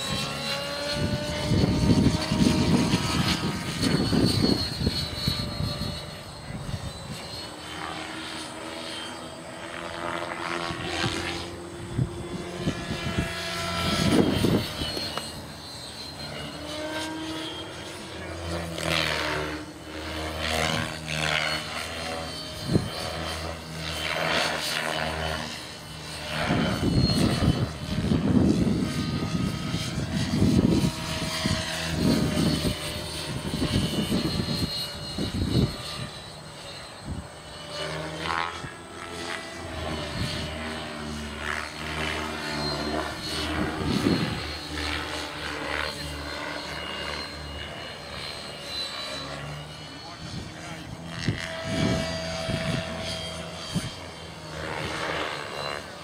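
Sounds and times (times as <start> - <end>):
helicopter rotor blade noise: 0.0 - 56.0
motor whine: 0.0 - 56.0.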